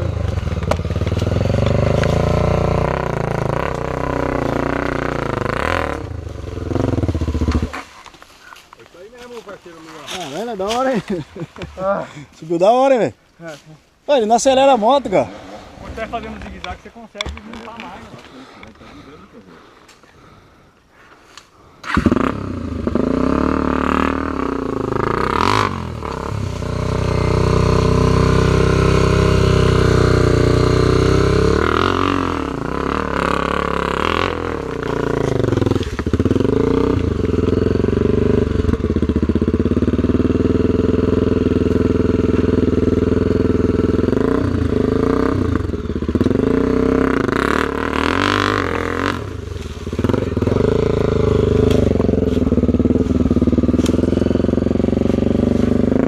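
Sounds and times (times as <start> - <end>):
dirt bike engine revving: 0.0 - 8.1, 14.5 - 19.0, 21.8 - 56.0.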